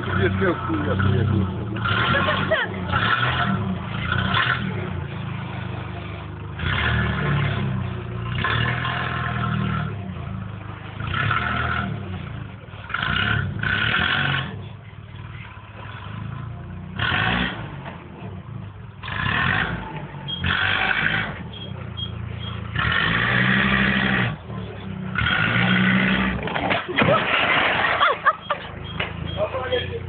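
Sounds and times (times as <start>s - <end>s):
forklift engine revving: 0.0s - 30.0s.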